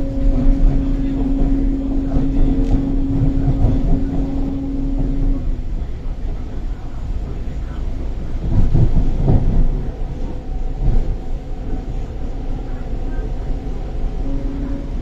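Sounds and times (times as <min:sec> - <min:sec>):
train rattling: 0:00.0 - 0:15.0
train wheels rumbling on track: 0:00.0 - 0:15.0.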